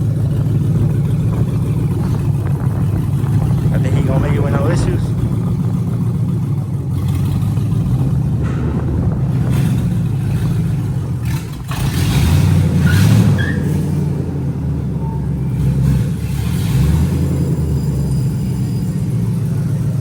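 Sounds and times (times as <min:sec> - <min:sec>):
car engine revving lightly: 0:00.0 - 0:20.0.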